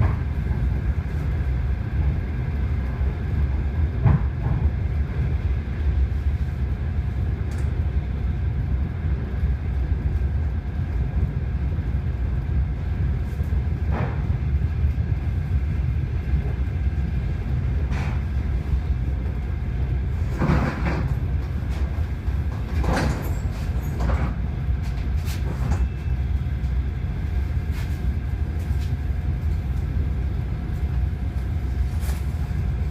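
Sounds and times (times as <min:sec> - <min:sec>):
electric train rumble: 0:00.0 - 0:32.9.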